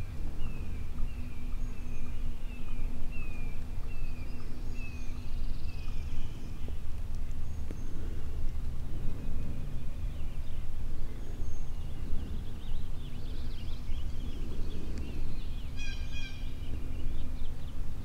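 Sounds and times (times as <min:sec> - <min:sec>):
songbirds chirping: 0:00.0 - 0:18.0
wind on microphone: 0:00.0 - 0:18.0.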